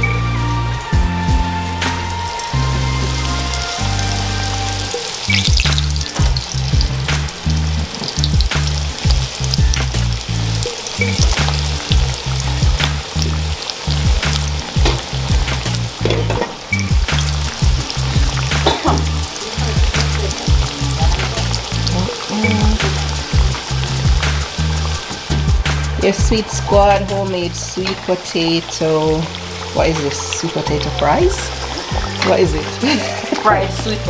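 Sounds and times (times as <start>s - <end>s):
music with pulsing bass: 0.0s - 27.7s
slices deep-frying in oil: 1.6s - 34.0s.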